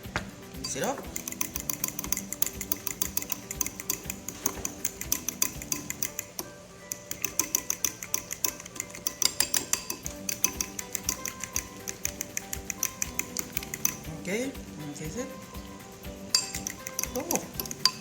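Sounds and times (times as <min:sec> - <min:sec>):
spoon clicking against bowl: 0:00.7 - 0:14.1, 0:15.2 - 0:18.0.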